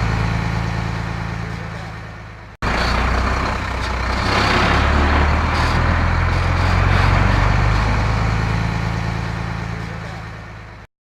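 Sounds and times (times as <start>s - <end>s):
diesel truck engine running: 0.0s - 10.9s.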